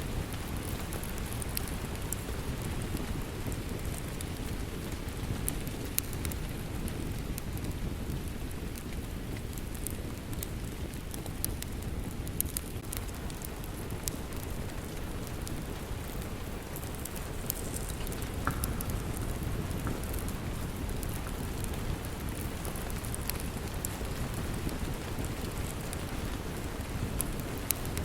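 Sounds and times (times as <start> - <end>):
log fire crackling: 0.0 - 28.0
steady rain: 0.0 - 28.0.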